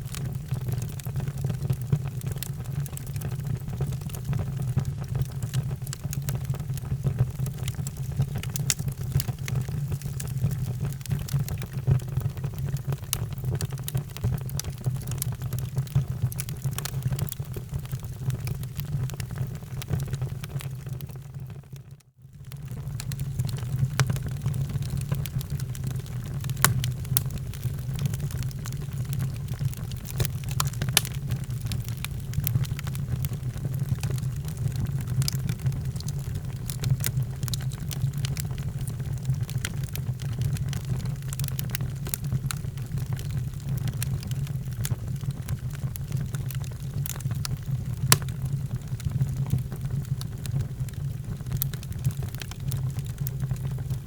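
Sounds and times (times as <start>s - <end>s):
fire low rumble: 0.0s - 20.7s, 22.5s - 54.0s
fire crackling and popping: 0.0s - 21.8s, 22.4s - 54.0s.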